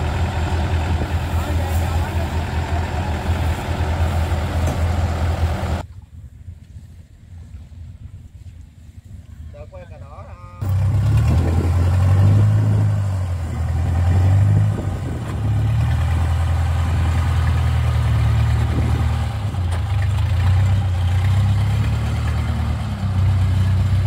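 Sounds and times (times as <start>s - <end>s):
diesel engine humming: 0.0s - 5.9s, 10.6s - 24.0s.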